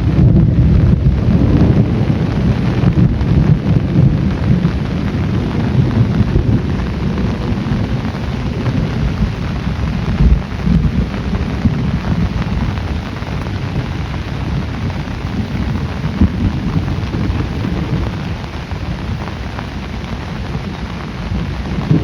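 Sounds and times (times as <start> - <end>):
heavy rain falling: 0.0 - 22.0
thunder rumbling: 0.0 - 22.0.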